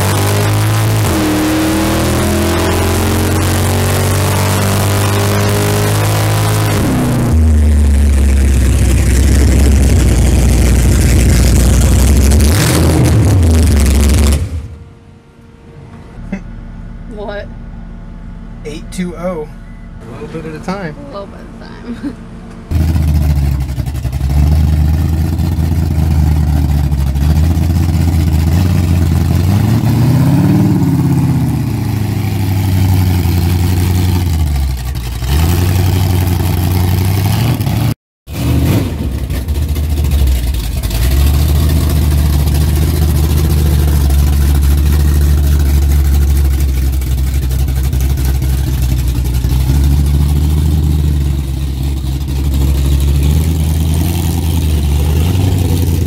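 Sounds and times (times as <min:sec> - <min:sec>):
truck engine at low revs: 0:00.0 - 0:56.0.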